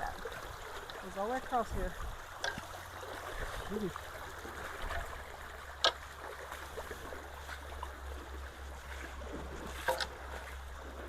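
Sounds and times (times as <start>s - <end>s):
water trickling in ditch: 0.0s - 11.0s.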